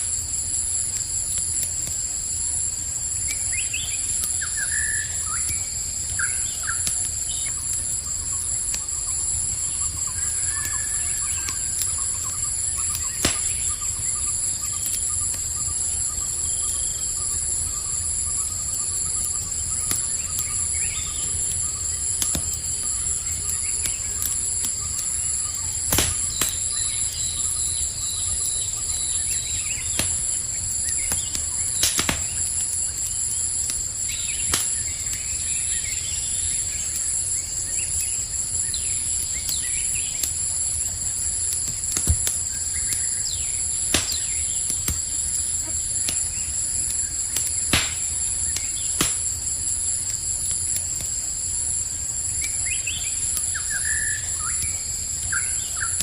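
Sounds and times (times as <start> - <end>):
campfire crackling: 0.0 - 56.0
crickets chirping: 0.0 - 56.0
sharp fire pops: 0.0 - 56.0.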